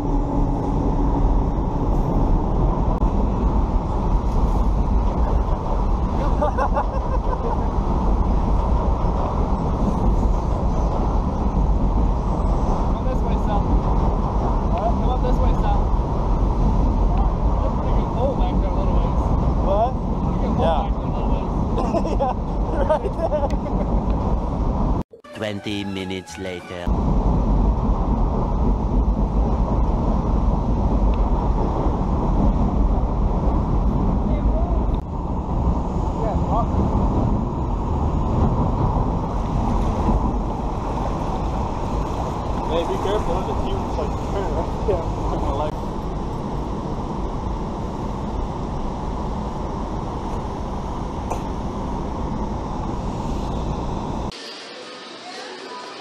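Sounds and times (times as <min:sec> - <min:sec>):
wind buffeting microphone: 0:00.0 - 0:25.0, 0:26.9 - 0:54.3.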